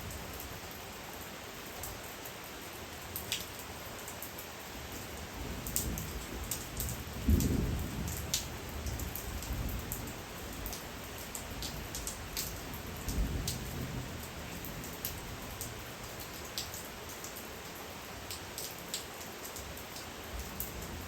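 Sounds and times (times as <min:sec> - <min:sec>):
raindrops ticking on a surface: 0:00.0 - 0:21.0
steady rain: 0:00.0 - 0:21.0.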